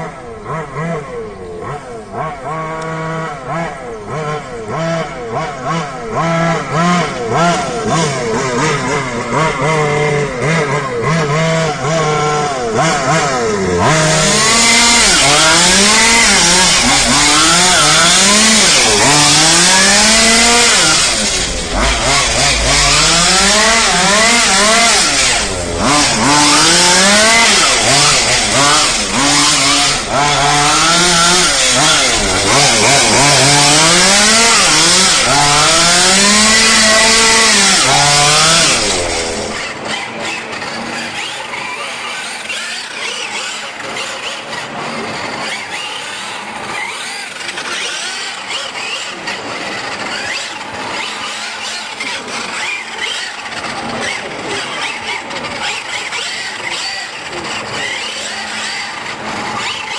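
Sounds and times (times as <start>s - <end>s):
small two-stroke engine revving: 0.0s - 59.9s.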